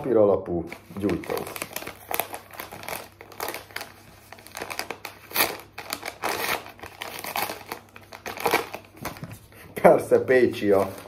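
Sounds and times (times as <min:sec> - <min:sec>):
paper envelope crinkling: 0:00.7 - 0:09.5, 0:10.5 - 0:11.0.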